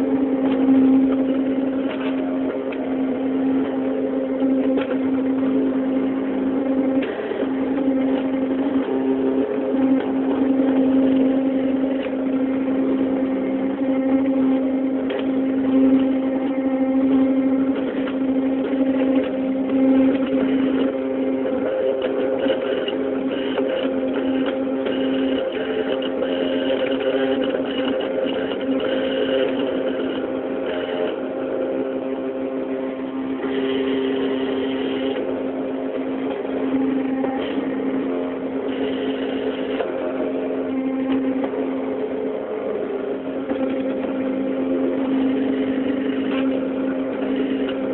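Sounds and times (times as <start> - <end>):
machine motor hum: 0.0 - 47.9.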